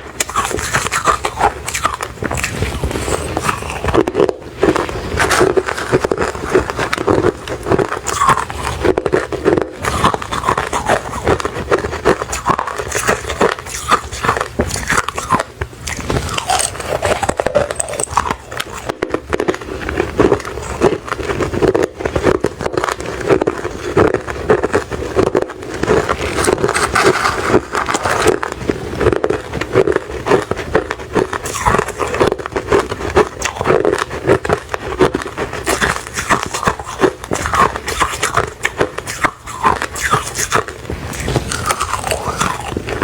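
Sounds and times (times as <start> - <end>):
ice crunching when chewed: 0.0 - 43.0.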